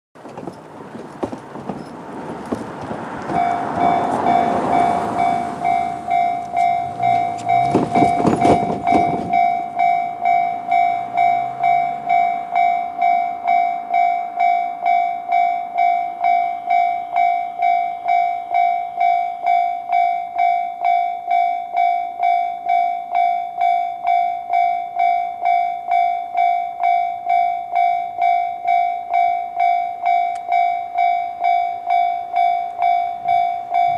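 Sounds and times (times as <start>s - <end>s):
level crossing alarm: 3.3s - 33.9s.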